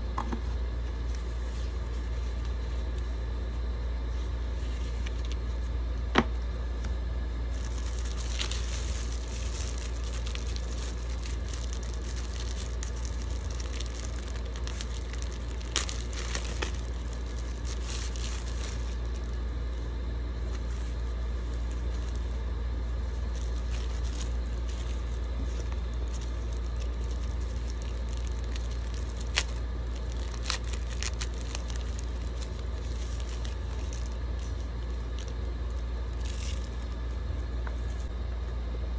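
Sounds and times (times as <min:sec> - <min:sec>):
steady low hum: 0:00.0 - 0:38.9
paper rustling and crinkling: 0:00.2 - 0:38.2.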